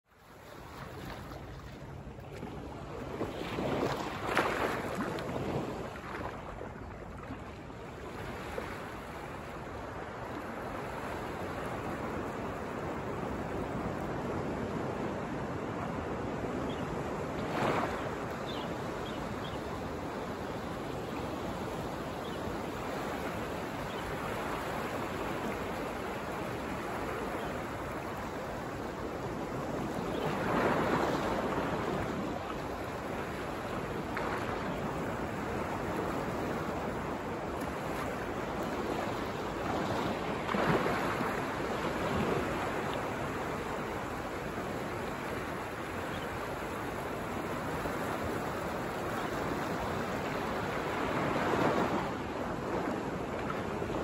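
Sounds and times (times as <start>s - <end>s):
ocean waves breaking: 0.1s - 54.0s.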